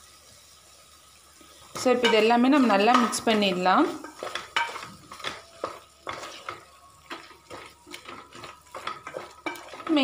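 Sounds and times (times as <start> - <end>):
wooden spatula stirring thick sauce: 1.7 - 10.0
spatula knocking metal pot: 1.8 - 10.0.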